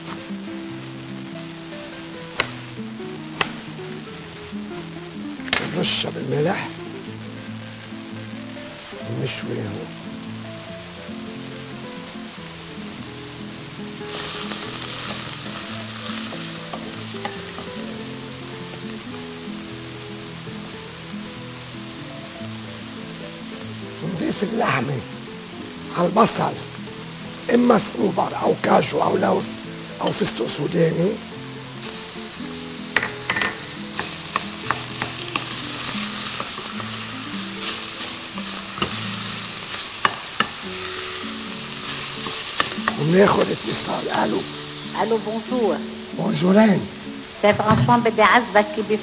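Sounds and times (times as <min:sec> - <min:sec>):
eggplant sizzling in oil: 0:00.0 - 0:49.0
soft background music: 0:00.0 - 0:49.0.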